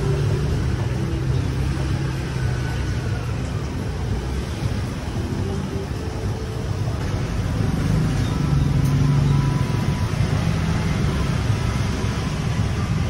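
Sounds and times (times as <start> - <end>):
cars and motorbikes passing: 0.0 - 13.0.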